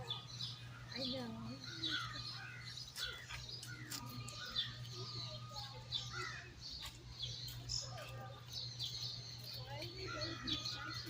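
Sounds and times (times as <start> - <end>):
small animals chirping and squeaking: 0.0 - 11.0.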